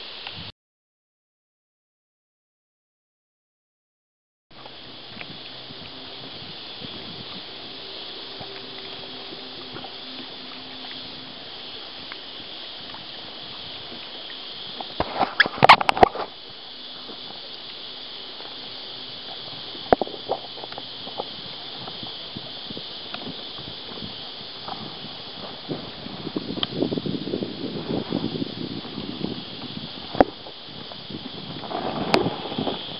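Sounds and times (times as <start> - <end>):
steady hiss: 0.0 - 0.5, 4.5 - 32.9
water lapping against kayak hull: 4.5 - 32.9.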